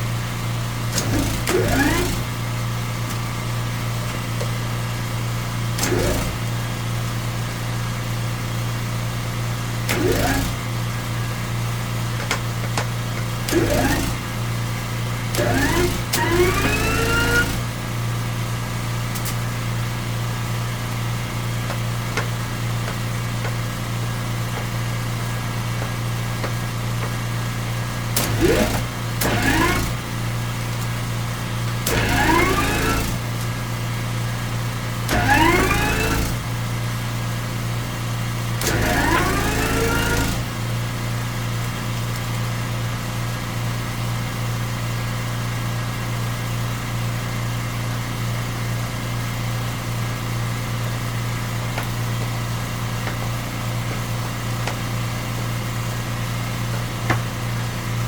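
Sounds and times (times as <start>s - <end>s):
drain jetter engine running: 0.0s - 58.0s.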